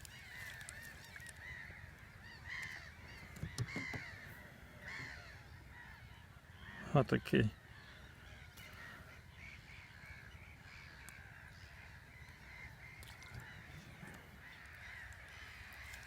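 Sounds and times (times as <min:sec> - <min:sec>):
distant bird calls chorus: 0:00.0 - 0:16.0.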